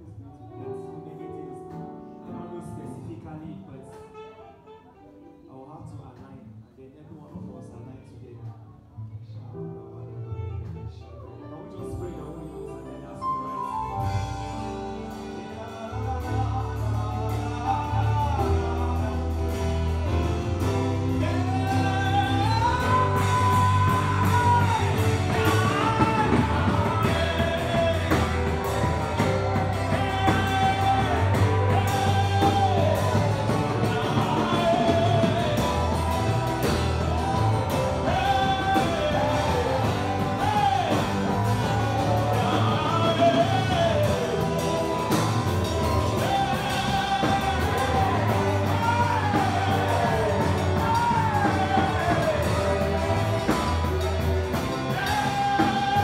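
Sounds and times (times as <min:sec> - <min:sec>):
gospel band playing: 0:00.0 - 0:06.7, 0:09.5 - 0:56.0
held keyboard notes: 0:09.6 - 0:56.0
person singing: 0:09.9 - 0:56.0.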